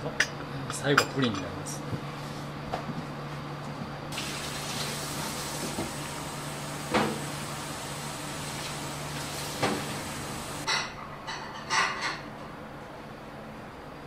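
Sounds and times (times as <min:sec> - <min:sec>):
room tone hum and hiss: 0:00.0 - 0:14.0.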